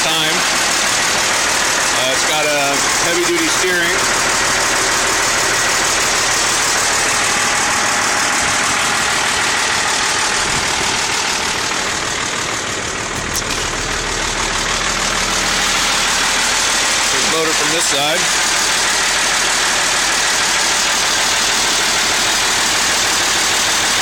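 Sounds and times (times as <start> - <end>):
truck diesel engine idling: 0.0 - 24.0.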